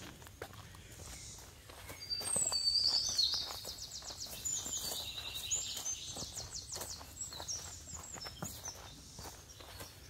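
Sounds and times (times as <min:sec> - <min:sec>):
footsteps on dirt trail: 0:00.0 - 0:10.0
birds chirping and trilling: 0:00.4 - 0:10.0.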